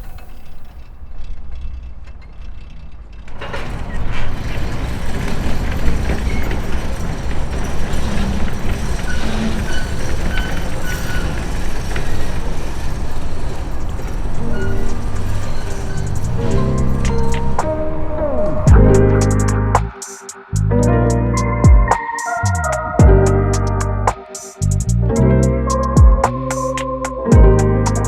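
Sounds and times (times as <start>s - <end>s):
engine road and wind noise: 0.0s - 28.0s
truck engine rumble: 0.0s - 28.0s.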